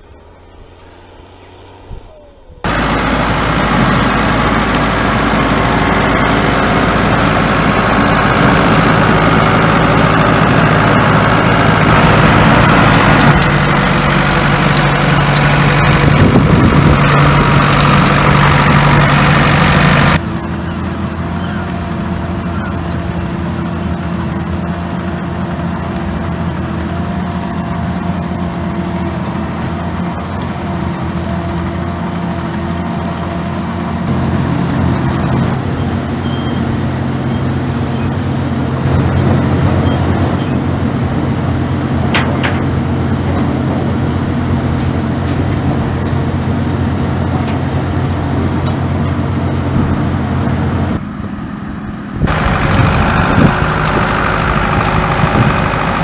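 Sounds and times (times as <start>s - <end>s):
harvester engine drone: 0.0s - 56.0s
tractor diesel engine under load: 0.0s - 56.0s
farm machinery clattering: 2.7s - 51.6s, 52.2s - 56.0s.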